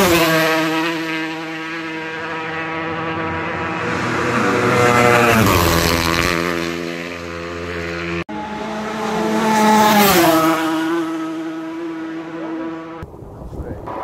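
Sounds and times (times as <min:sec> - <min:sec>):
motorcycles passing at speed: 0:00.0 - 0:14.0.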